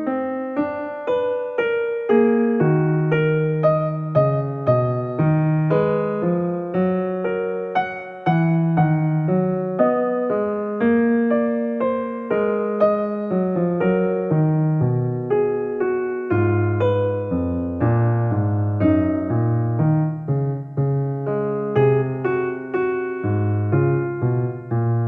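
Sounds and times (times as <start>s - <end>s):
gentle electric piano chords: 0.0s - 25.0s.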